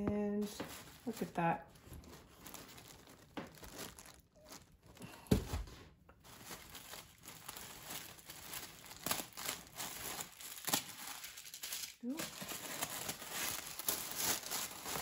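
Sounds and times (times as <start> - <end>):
tissue paper rustling: 0.0 - 15.0.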